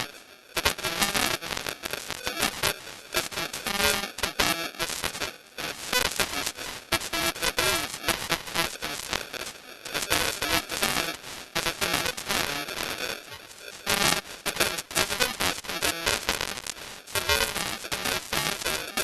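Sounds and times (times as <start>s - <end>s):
crackling digital distortion: 0.0s - 19.0s.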